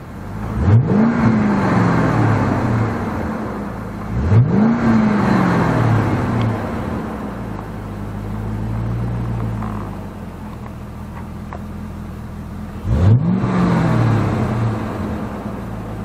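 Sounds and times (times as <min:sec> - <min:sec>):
car engine idling: 0:00.0 - 0:16.0
car engine revving: 0:00.0 - 0:16.0.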